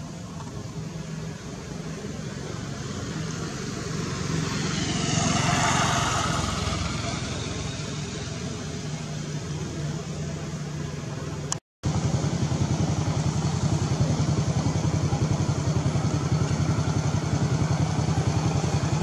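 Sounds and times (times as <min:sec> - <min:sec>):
small engine running: 0:00.1 - 0:10.9, 0:11.9 - 0:19.0.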